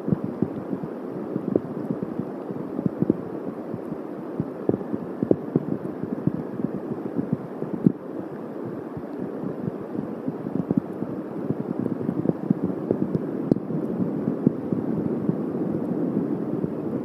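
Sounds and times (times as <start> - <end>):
rain drops tapping on microphone: 0.0 - 17.0.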